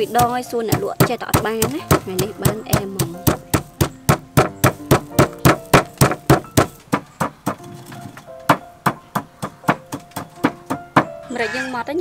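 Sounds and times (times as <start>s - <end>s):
pestle pounding in stone mortar: 0.0s - 11.2s
background music with held notes: 0.0s - 12.0s.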